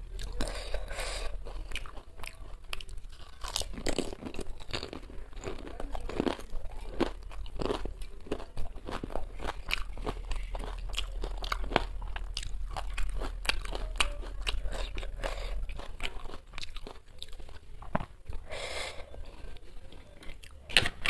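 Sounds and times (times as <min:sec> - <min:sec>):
crunching and chewing crisp shells: 0:00.0 - 0:21.0.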